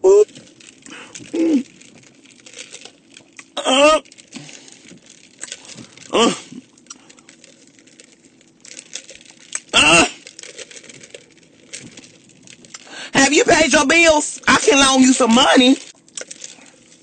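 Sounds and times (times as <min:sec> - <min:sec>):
clicking and rustling handling: 0:00.3 - 0:12.9, 0:15.0 - 0:17.0.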